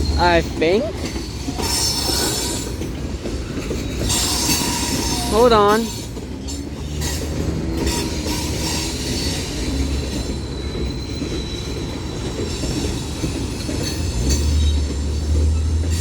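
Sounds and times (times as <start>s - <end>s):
high wheel squeal: 0.0s - 2.9s, 3.8s - 16.0s
freight train cars rumbling: 0.0s - 16.0s.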